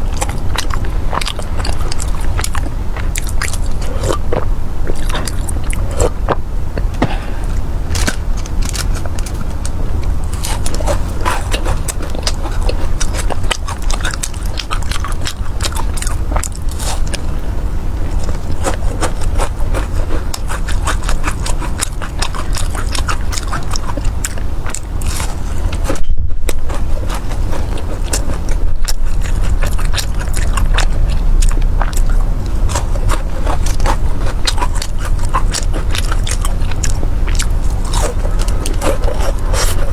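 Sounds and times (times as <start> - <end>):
chewing sticky fried pastries: 0.0 - 39.9.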